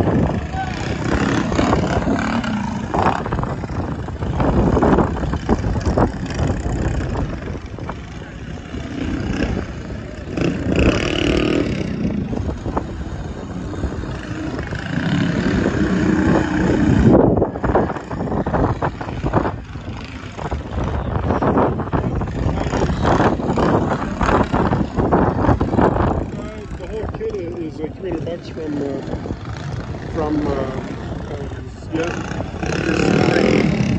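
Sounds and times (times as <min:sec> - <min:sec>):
mini bike engines revving: 0:00.0 - 0:33.9
onlookers' voices: 0:00.0 - 0:33.9.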